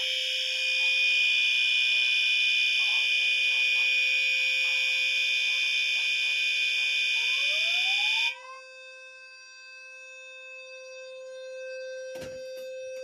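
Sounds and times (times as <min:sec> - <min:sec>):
fire alarm horns: 0:00.0 - 0:13.0.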